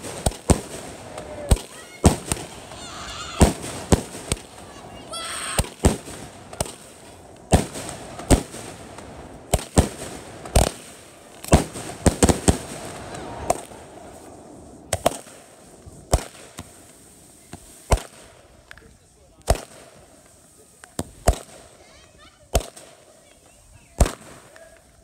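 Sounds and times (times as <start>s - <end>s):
fireworks banging: 0.0s - 25.0s.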